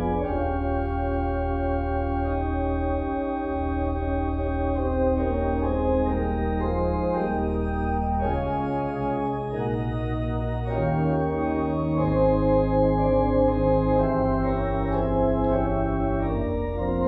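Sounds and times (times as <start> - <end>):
organ playing held chords: 0.0 - 17.0.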